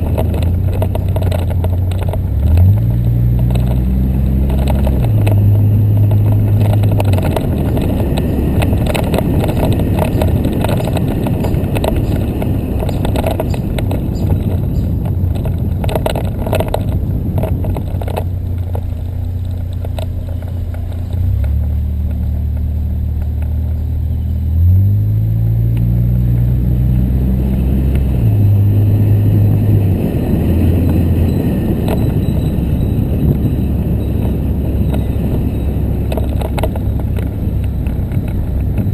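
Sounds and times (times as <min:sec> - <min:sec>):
car engine: 0:00.0 - 0:38.9
road rumble: 0:00.0 - 0:38.9.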